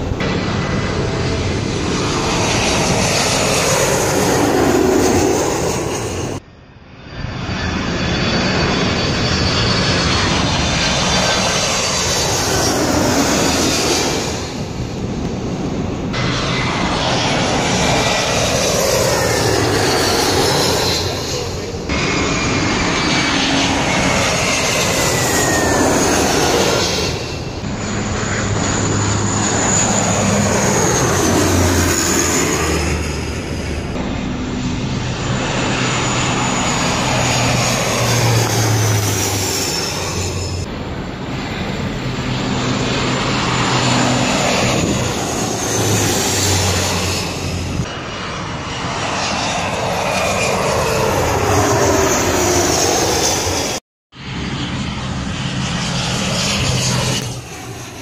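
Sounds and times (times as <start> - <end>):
jet airliner passing overhead: 0.0 - 58.0
turboprop propeller hum: 0.0 - 58.0.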